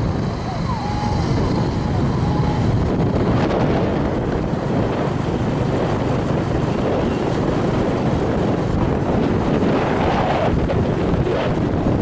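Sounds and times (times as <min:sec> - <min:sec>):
rumble of moving vehicle: 0:00.0 - 0:12.0
wind rushing over microphone: 0:00.0 - 0:12.0.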